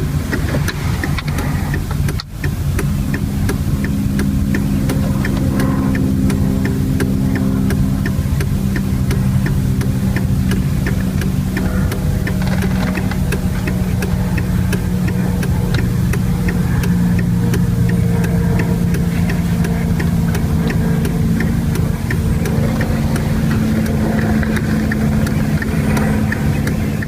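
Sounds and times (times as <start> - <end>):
engine idling: 0.0 - 27.0
light regular ticking: 0.0 - 27.0.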